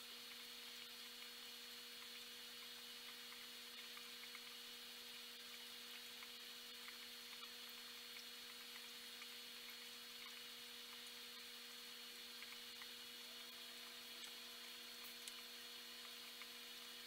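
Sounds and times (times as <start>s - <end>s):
aquarium equipment hum: 0.0s - 17.0s
tiny ticks: 0.2s - 17.0s.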